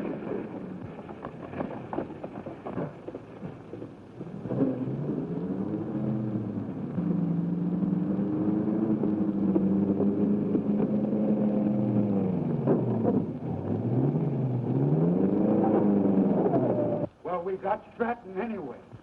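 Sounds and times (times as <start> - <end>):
car engine running hard: 0.0 - 17.2.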